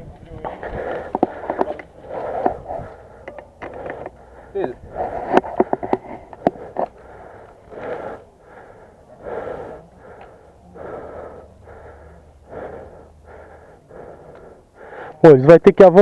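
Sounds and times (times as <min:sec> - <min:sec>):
heavy rhythmic breathing: 0:00.0 - 0:15.4.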